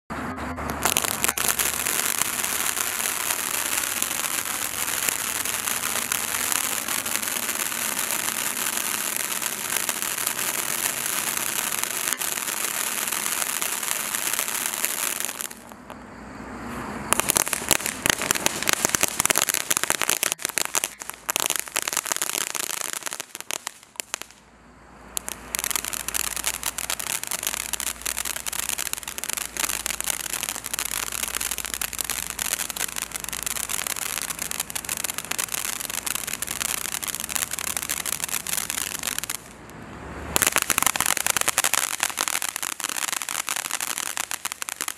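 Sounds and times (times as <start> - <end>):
firework fountain hissing and crackling: 0.6 - 44.9.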